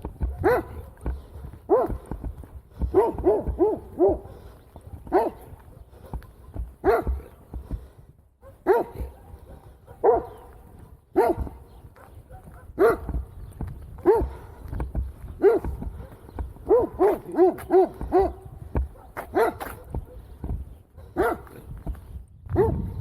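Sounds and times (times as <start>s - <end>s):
dog barking: 0.2s - 2.2s, 2.8s - 7.5s, 8.4s - 13.3s, 14.0s - 14.6s, 15.4s - 21.7s, 22.5s - 23.0s.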